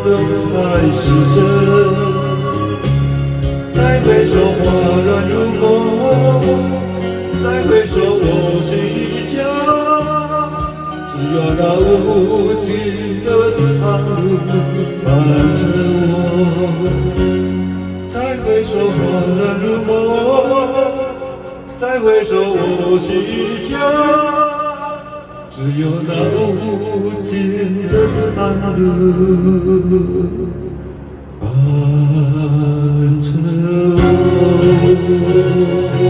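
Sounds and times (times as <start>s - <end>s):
backing track accompaniment: 0.0s - 36.0s
person singing pop ballad: 0.0s - 36.0s.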